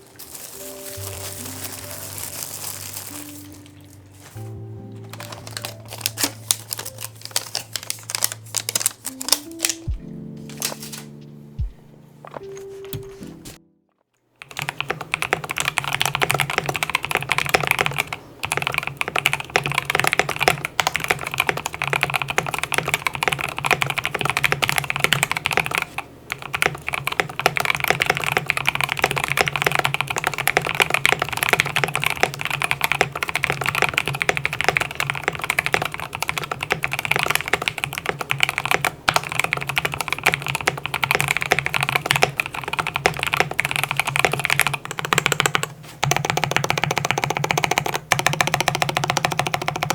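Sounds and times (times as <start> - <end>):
mechanical keyboard typing: 5.1 - 11.1, 14.4 - 49.9.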